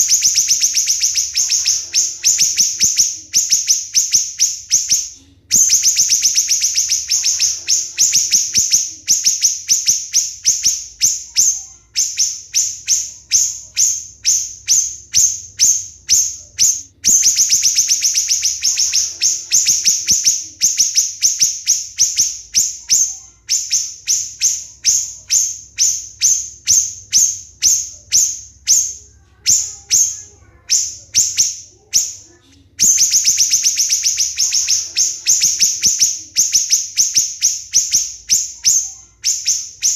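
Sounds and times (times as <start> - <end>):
bird singing shrill high notes: 0.0 - 39.9.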